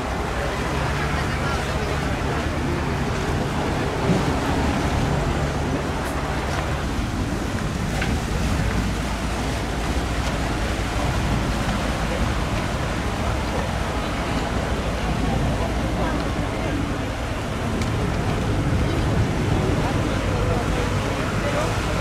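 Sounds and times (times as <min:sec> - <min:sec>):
boat engines running: 0:00.0 - 0:22.0
water washing: 0:00.0 - 0:22.0.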